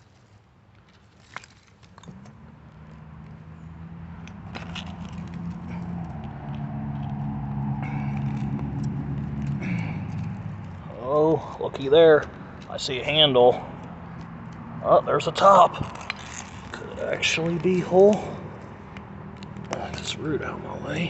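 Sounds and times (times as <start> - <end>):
digging in gravel: 0.0 - 21.0
vehicle engine approaching: 1.8 - 21.0.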